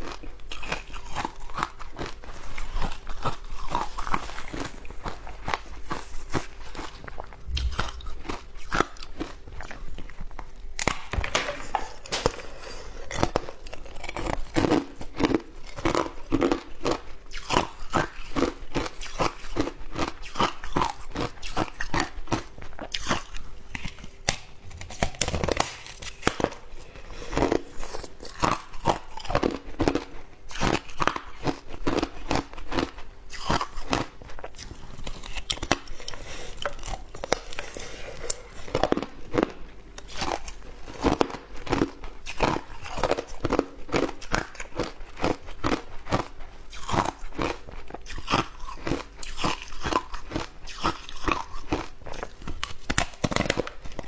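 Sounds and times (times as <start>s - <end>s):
ice being chewed: 0.0s - 10.6s, 11.6s - 54.0s.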